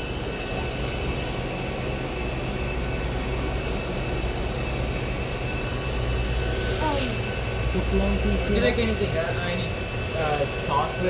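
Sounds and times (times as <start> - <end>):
machinery hum and hiss: 0.0 - 11.0.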